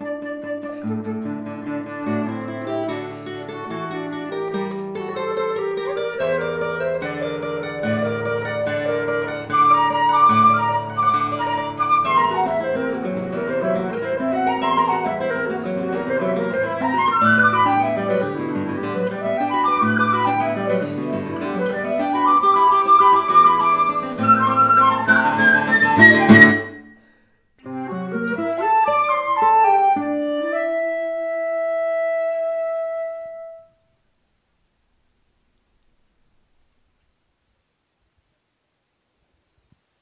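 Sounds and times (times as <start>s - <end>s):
flute playing quick phrases: 0.0s - 3.9s, 4.6s - 27.0s, 27.6s - 33.7s
classical guitar picking: 0.0s - 33.6s.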